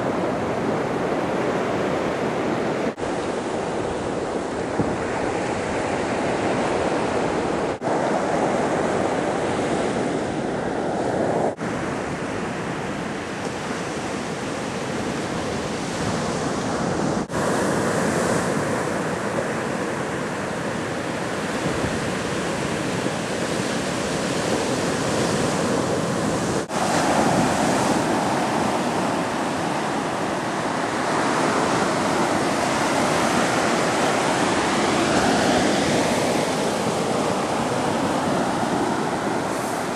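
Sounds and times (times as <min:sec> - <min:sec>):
surf washing up on beach: 0:00.0 - 0:39.9.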